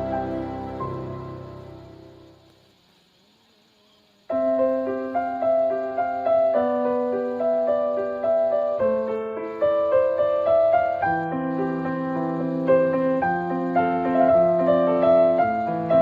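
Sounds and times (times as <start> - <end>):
gentle piano music: 0.0 - 2.6, 4.3 - 16.0.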